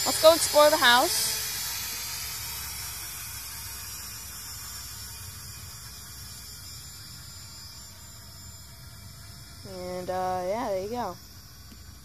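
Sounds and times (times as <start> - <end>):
quadcopter motors buzzing: 0.0 - 12.0.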